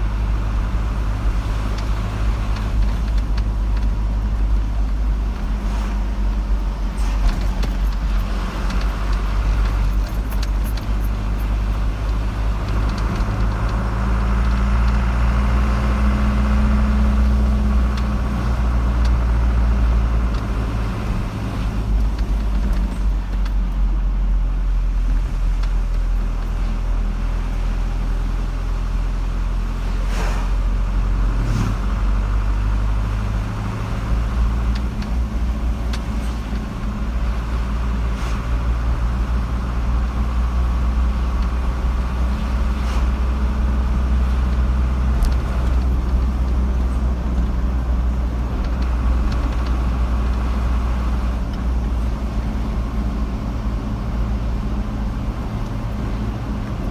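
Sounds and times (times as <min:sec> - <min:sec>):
car engine and tyre drone: 0:00.0 - 0:56.9.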